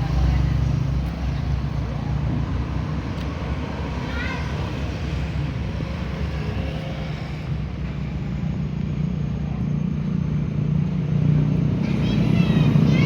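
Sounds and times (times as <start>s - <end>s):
bus engine rumbling: 0.0s - 5.8s, 7.4s - 13.0s.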